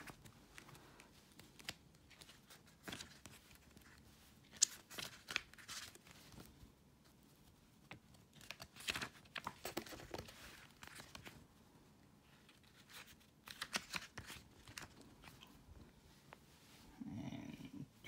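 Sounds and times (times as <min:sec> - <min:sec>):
booklet pages rustling: 0:00.0 - 0:11.5, 0:12.2 - 0:16.8.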